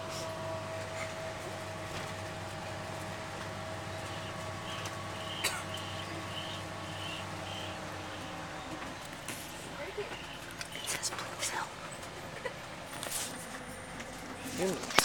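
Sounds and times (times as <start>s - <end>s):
bus hum on the move: 0.0s - 15.0s.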